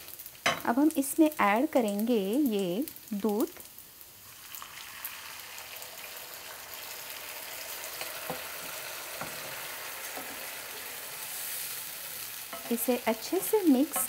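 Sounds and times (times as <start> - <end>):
liquid sizzling in a hot pan: 0.0 - 14.0.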